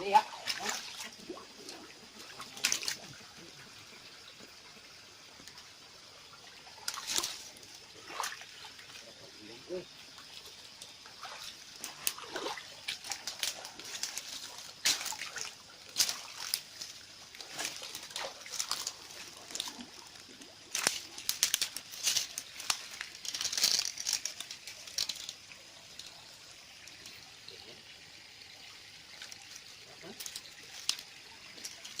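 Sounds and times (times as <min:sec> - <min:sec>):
water splashing: 0:00.0 - 0:03.8, 0:05.3 - 0:32.0
stream trickling: 0:00.0 - 0:32.0.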